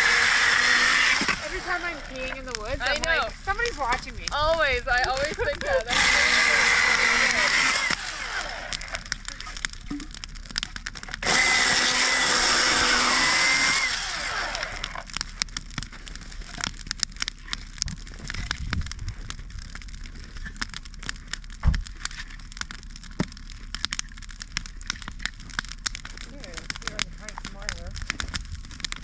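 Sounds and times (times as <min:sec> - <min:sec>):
burning wood popping: 0:00.0 - 0:29.0
campfire crackling: 0:00.0 - 0:29.0.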